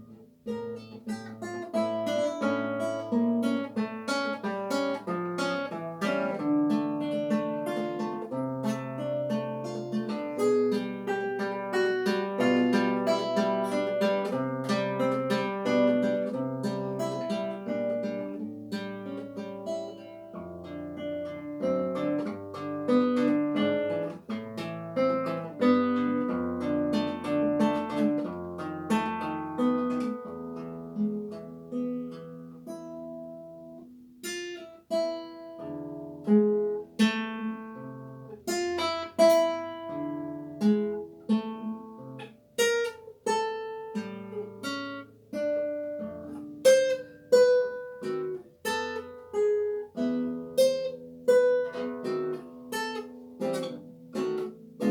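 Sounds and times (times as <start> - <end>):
classical guitar solo: 0.0 - 54.9.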